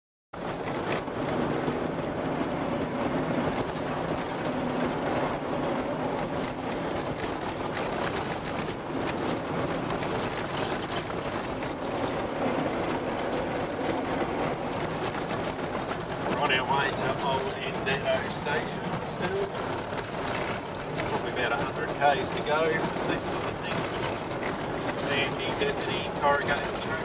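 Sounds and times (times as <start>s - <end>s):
vehicle engine and tyre drone: 0.4s - 27.0s.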